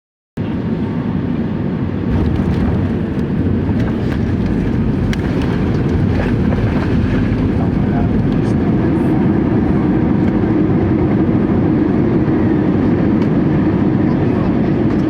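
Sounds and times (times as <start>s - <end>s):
jet engine cabin rumble: 0.4s - 15.0s.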